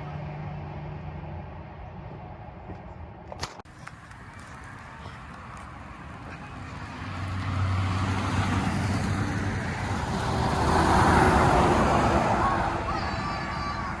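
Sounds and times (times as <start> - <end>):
tyre and road noise: 0.0 - 14.0
vehicle engine drone: 0.0 - 14.0.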